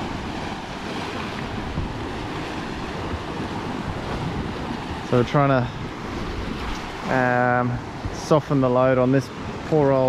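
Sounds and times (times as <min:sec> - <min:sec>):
sea water rushing along hull: 0:00.0 - 0:10.0
wind buffeting microphone: 0:00.0 - 0:10.0.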